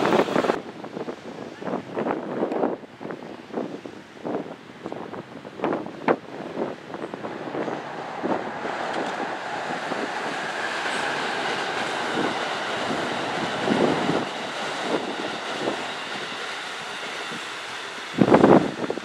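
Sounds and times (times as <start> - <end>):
train wheels rumbling on rail: 0.0 - 2.8, 4.4 - 19.0
wind thumping on microphone: 0.0 - 17.4.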